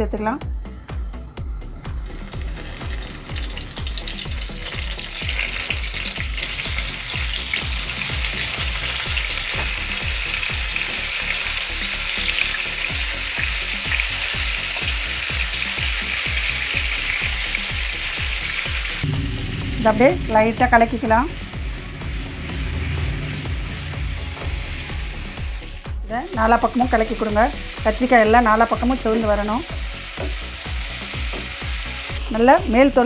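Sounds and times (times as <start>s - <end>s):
vegetables sizzling in hot oil: 2.0s - 19.1s, 19.8s - 33.0s.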